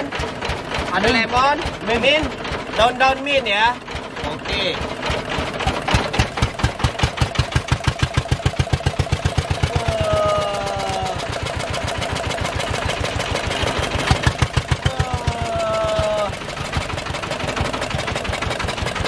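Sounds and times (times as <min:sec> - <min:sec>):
juice crusher knocking: 0:00.0 - 0:19.0.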